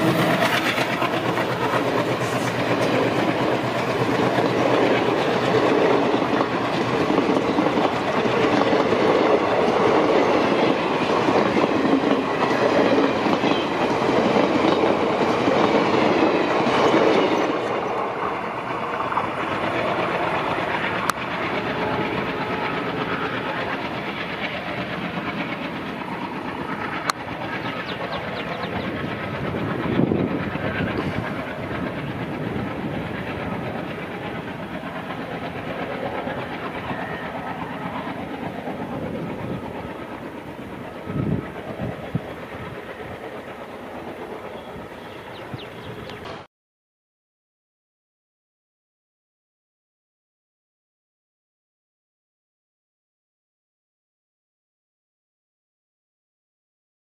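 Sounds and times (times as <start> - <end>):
train wheels clattering on rails: 0.0 - 46.5.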